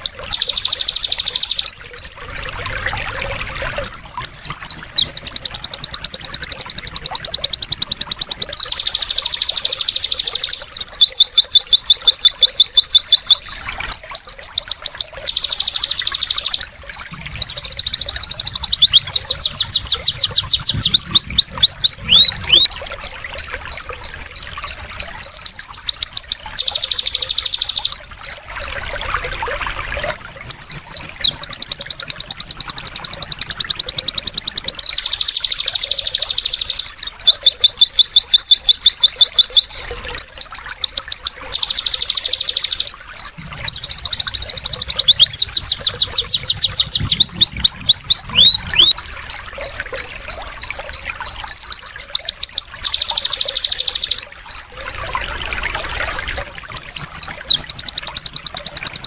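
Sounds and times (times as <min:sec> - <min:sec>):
bird song with high trills: 0:00.0 - 0:59.0
trickling water: 0:00.0 - 0:59.0.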